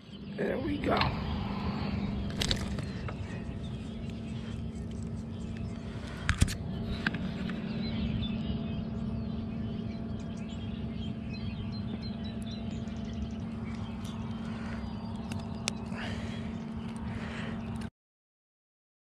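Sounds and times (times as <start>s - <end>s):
low hum: 0.0s - 17.9s
low rumble: 0.0s - 17.9s.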